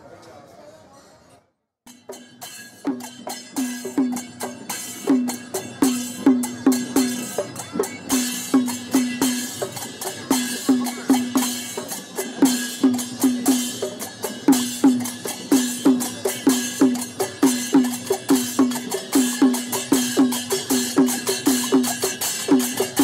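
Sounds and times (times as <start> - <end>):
drum beaten with a stick: 1.9 - 23.0
hand cymbals clashing: 1.9 - 23.0.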